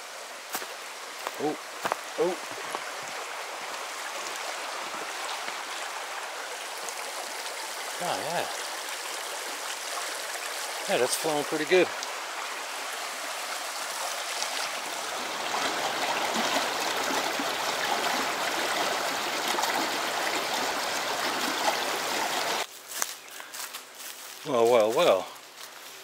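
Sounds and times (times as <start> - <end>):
stream water rushing: 0.0 - 22.7.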